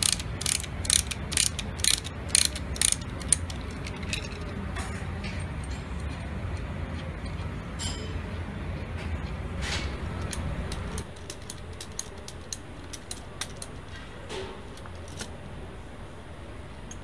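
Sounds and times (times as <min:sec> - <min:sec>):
spanner clinking on steel: 0:00.0 - 0:13.9
low steady hum: 0:00.0 - 0:17.0.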